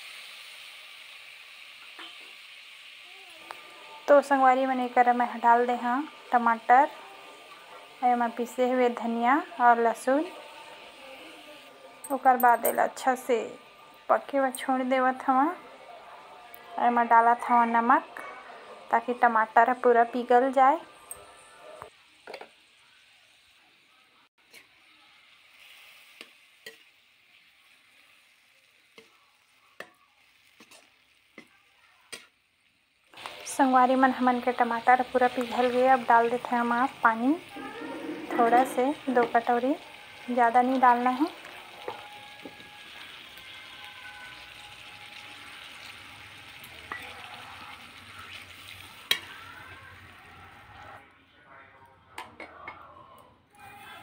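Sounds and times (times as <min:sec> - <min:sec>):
faint sizzle: 0:00.0 - 0:51.9.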